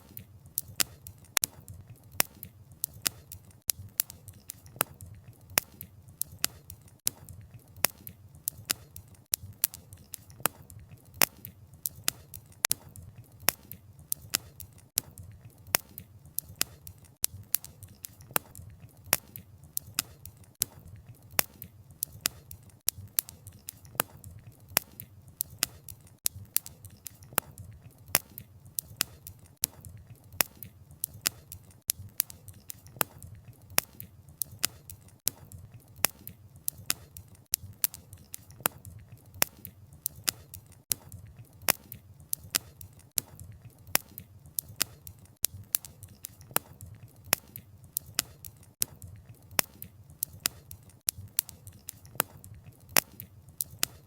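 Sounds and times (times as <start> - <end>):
burning logs popping: 0.0 - 54.0.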